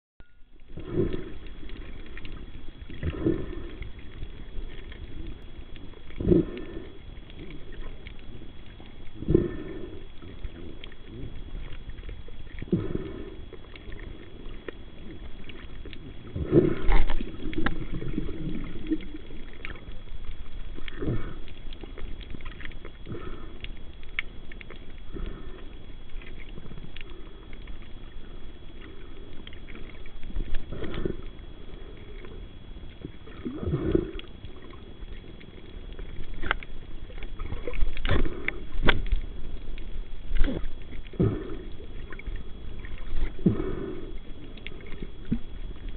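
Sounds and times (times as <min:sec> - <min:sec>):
faint high-pitched whine: 0:00.2 - 0:45.9.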